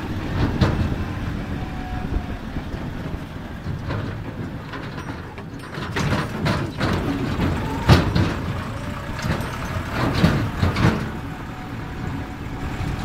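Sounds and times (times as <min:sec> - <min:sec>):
rattle and jolts of ride: 0:00.0 - 0:13.0
tractor engine running: 0:00.0 - 0:13.0.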